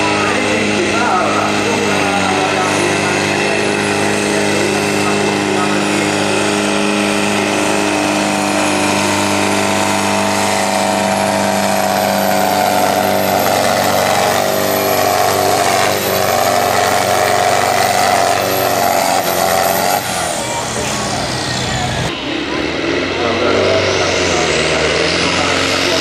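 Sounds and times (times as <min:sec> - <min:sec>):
tractor diesel engine running loud: 0:00.0 - 0:26.0.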